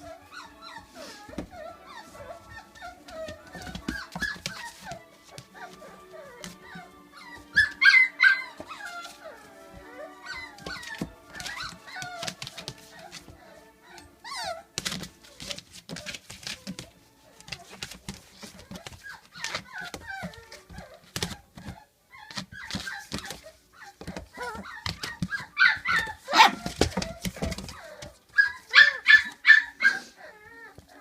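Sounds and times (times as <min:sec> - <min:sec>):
puppies whimpering and yipping: 0:00.0 - 0:31.0.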